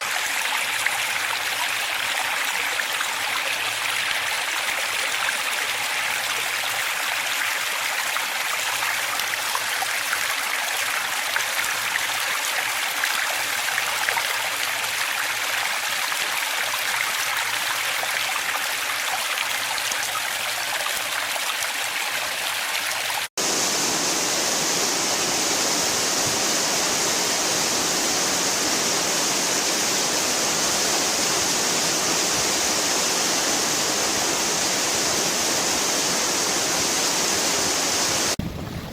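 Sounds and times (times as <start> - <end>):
hissy rush of water: 0.0 - 38.9
stream babbling: 0.0 - 38.9.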